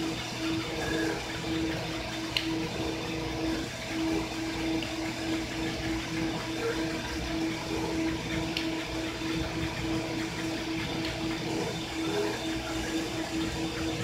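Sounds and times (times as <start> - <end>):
drive motors humming: 0.0 - 14.0
steady rushing machine noise: 0.0 - 14.0.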